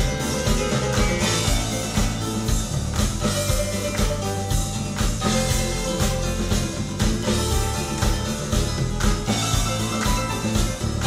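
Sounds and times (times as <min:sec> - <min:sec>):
drum kit beat: 0:00.0 - 0:11.0
funk-rock music over speakers: 0:00.0 - 0:11.0.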